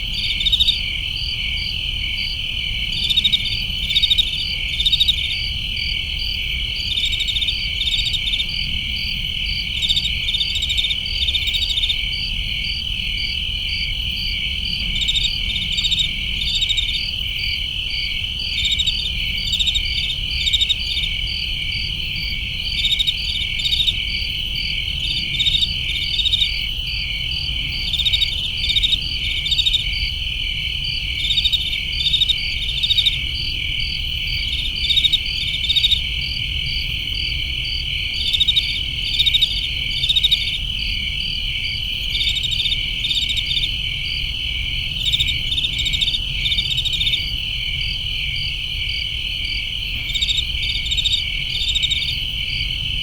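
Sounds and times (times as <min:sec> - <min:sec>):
crickets trilling: 0:00.0 - 0:53.0
pulsed cricket chirps: 0:00.0 - 0:53.0.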